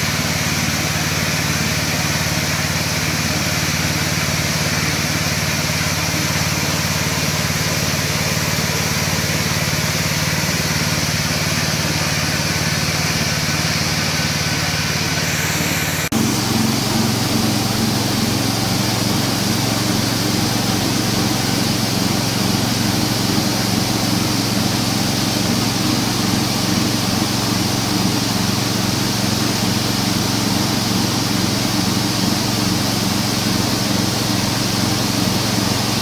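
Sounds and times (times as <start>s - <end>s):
machine droning: 0.0s - 36.0s.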